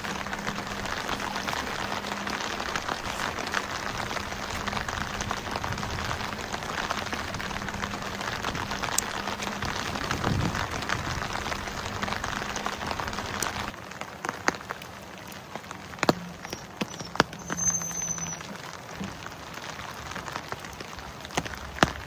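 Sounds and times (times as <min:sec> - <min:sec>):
heavy rain hissing: 0:00.0 - 0:22.0
raindrops ticking: 0:00.0 - 0:22.0.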